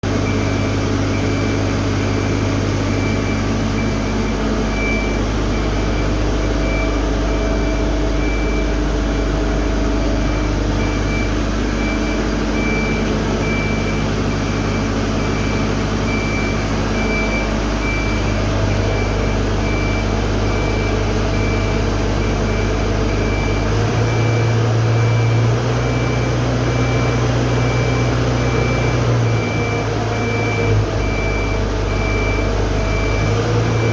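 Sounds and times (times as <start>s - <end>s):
hydraulic machinery hum: 0.0s - 33.9s.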